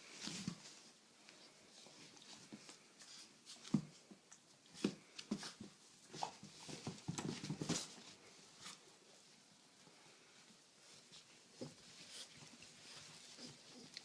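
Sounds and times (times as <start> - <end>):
puppies scuffling: 0.0 - 14.0.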